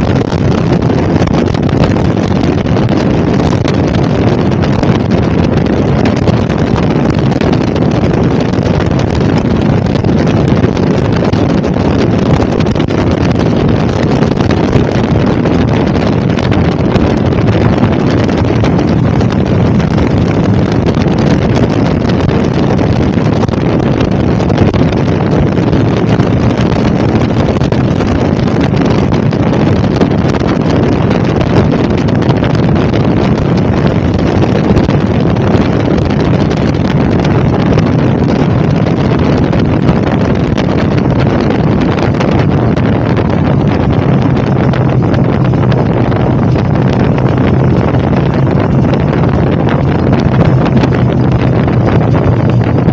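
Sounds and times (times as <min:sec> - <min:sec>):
motorcycle running: 0:00.0 - 0:52.9
wind buffeting microphone: 0:00.0 - 0:52.9.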